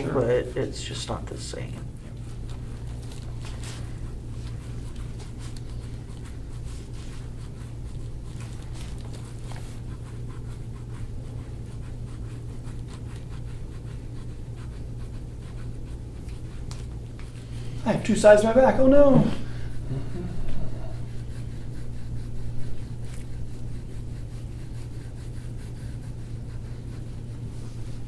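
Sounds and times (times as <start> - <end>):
scraping tool rubbing on skin: 0.0 - 18.9, 20.5 - 28.0
steady low hum: 0.0 - 28.0.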